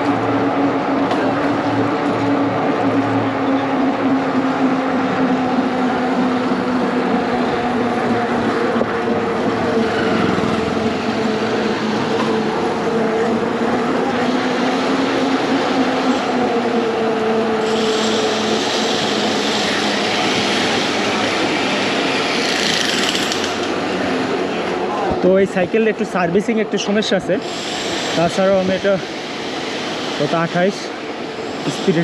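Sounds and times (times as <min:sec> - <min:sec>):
bike tyres humming on road: 0:00.0 - 0:32.0.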